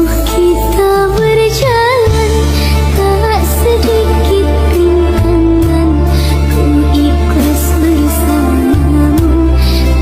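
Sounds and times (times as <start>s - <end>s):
steady bass: 0.0s - 10.0s.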